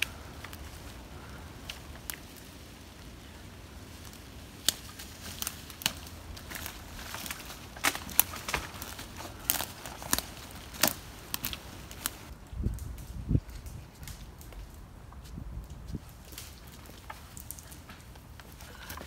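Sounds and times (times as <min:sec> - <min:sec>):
branch dragged: 0:00.0 - 0:14.8, 0:15.9 - 0:19.0
footsteps through dry leaves: 0:00.0 - 0:17.9
branch crackling and snapping: 0:00.0 - 0:19.0.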